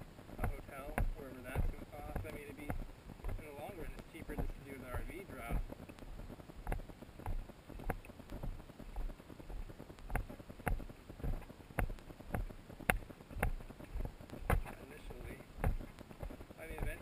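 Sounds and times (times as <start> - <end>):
footsteps crunching on gravel: 0.4 - 17.0.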